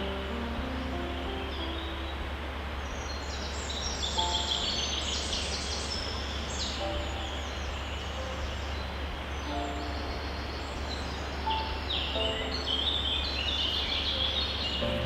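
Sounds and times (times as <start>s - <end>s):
small songbirds chirping: 0.0s - 15.0s
steady background hiss: 0.0s - 15.0s.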